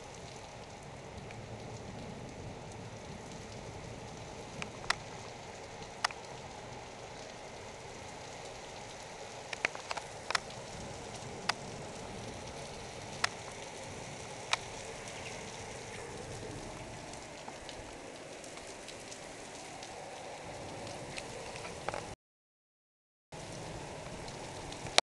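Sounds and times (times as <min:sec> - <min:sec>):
heavy rain pouring on rooftops: 0:00.0 - 0:22.2, 0:23.4 - 0:25.0
raindrops ticking close by: 0:00.0 - 0:22.2, 0:23.3 - 0:25.0.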